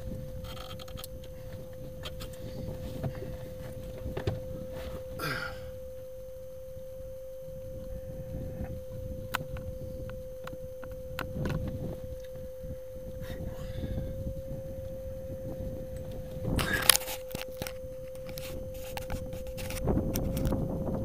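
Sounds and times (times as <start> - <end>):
steady high tone: 0.0 - 21.0
uneven low rumble: 0.0 - 21.0.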